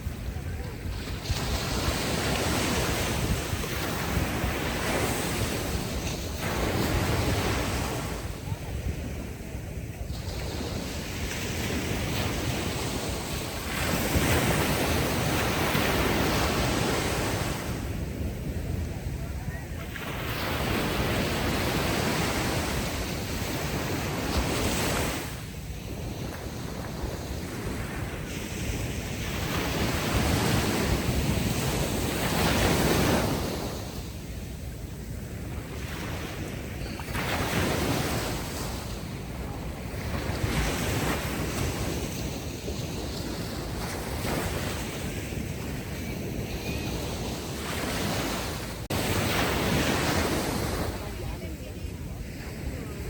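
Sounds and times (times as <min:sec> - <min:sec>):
ocean waves washing ashore: 0:00.0 - 0:53.0.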